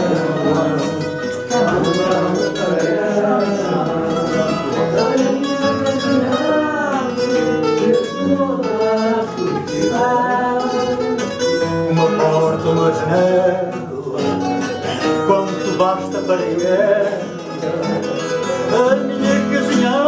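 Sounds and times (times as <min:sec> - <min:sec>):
guitars playing accompaniment: 0:00.0 - 0:20.0
man singing: 0:00.0 - 0:20.0.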